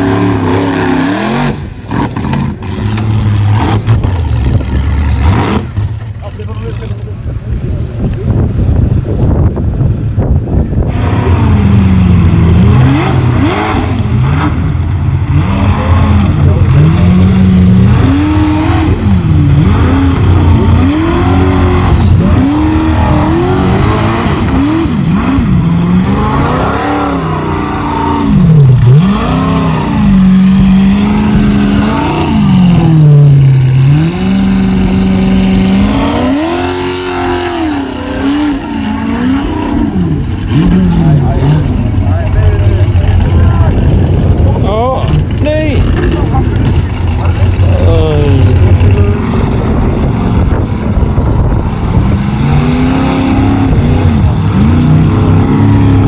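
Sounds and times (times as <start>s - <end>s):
race buggy engine revving: 0.0s - 56.0s.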